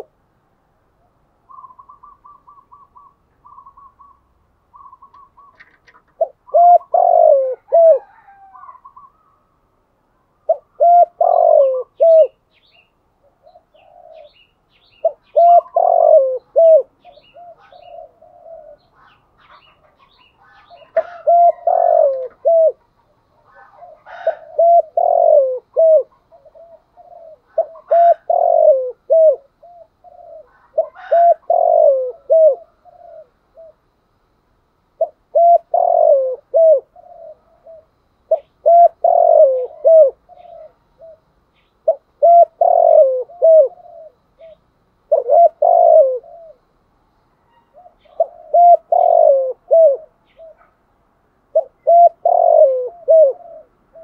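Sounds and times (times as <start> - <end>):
dove cooing: 0.0 - 0.2, 0.9 - 9.6, 10.2 - 34.0, 35.0 - 46.8, 47.4 - 50.8, 51.5 - 54.0.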